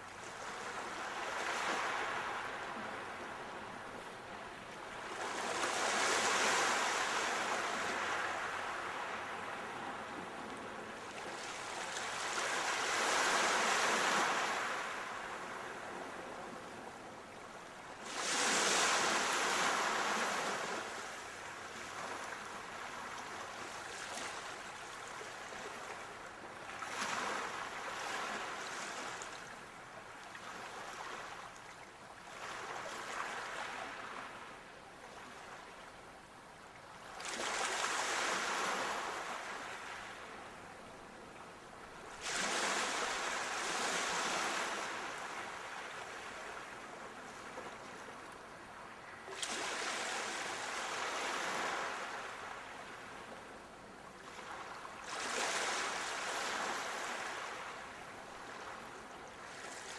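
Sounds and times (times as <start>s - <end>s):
sea waves breaking on shore: 0.0s - 36.1s, 36.8s - 59.9s.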